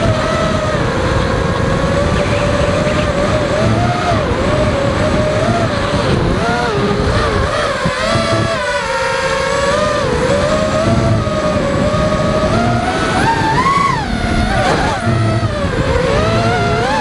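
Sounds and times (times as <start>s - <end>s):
quadcopter motors whining: 0.0s - 17.0s
wind and vibration rumble: 0.0s - 17.0s.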